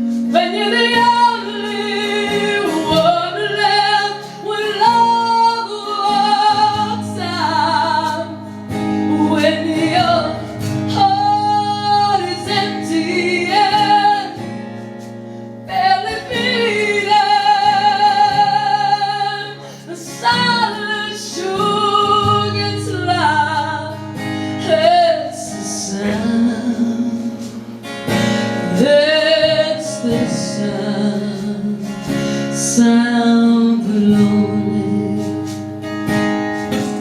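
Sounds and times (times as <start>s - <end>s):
guitar accompaniment: 0.0s - 37.0s
woman singing: 0.0s - 37.0s.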